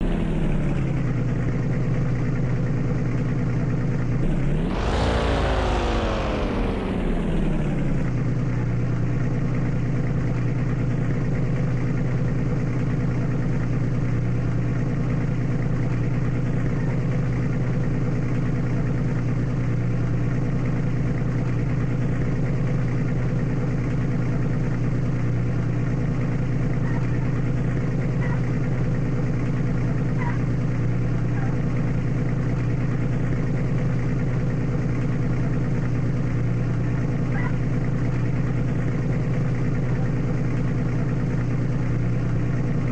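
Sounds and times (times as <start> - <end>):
car engine running: 0.0 - 42.9
engine rev: 0.0 - 42.9.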